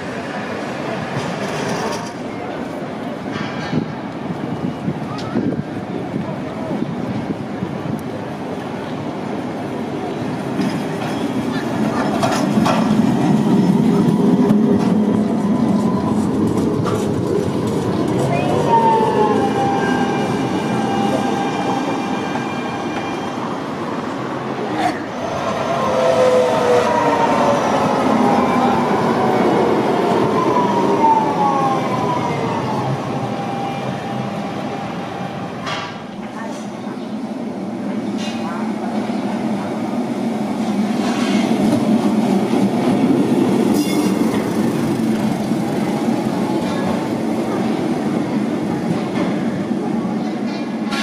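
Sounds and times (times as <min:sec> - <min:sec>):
tram rumbling on street track: 0:00.0 - 0:51.0.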